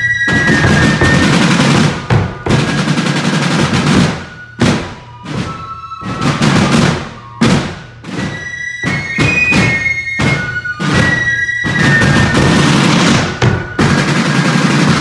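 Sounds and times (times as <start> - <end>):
snare drum corps rolls: 0.0 - 15.0.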